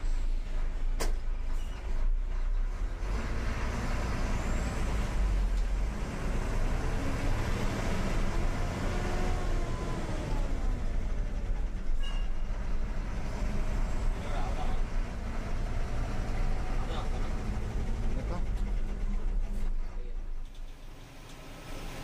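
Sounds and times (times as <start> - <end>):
lorry diesel engine: 0.0 - 22.0
road noise: 0.0 - 22.0.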